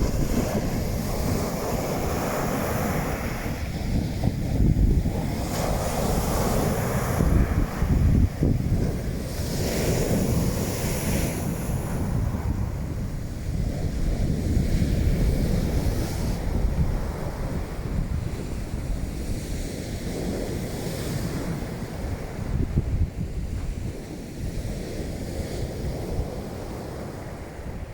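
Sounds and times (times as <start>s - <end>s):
waves washing onto beach: 0.0s - 27.9s
wind buffeting microphone: 0.0s - 27.9s.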